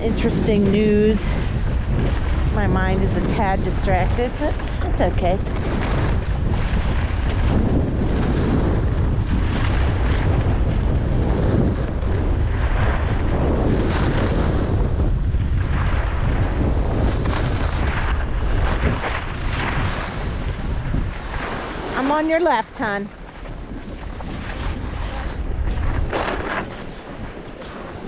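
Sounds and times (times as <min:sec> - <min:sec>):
steady low rumble: 0:00.0 - 0:28.0
wind buffeting microphone: 0:00.0 - 0:28.0.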